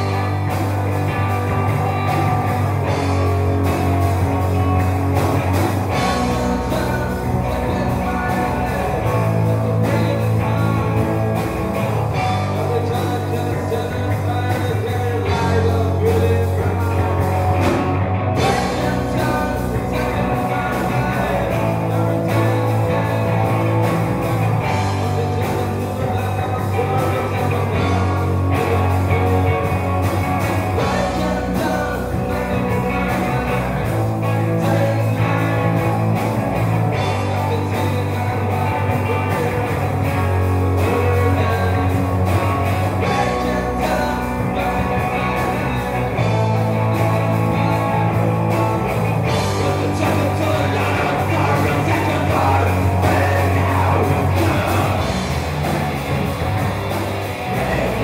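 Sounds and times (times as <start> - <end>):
bass guitar: 0.0 - 58.0
drums: 0.0 - 58.0
electric guitar: 0.0 - 58.0.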